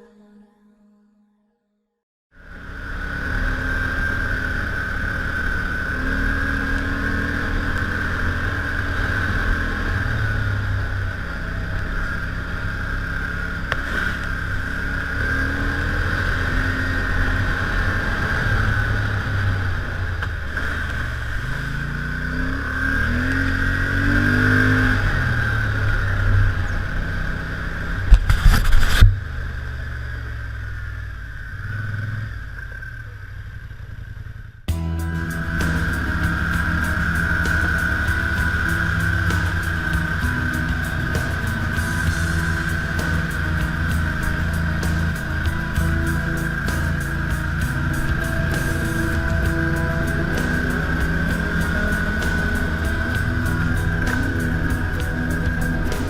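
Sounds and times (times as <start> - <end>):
high whine: 2.4 - 32.9, 34.6 - 56.0
atv engine revving: 2.4 - 56.0.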